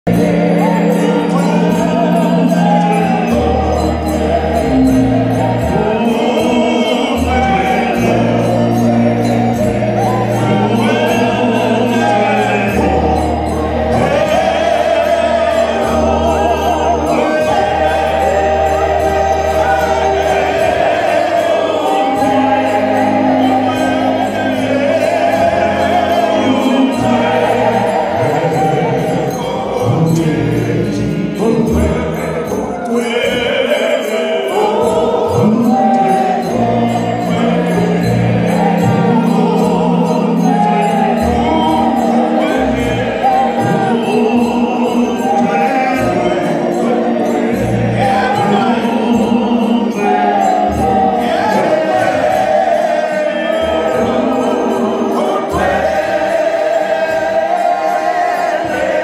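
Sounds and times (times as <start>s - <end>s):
group singing: 0.0s - 59.0s.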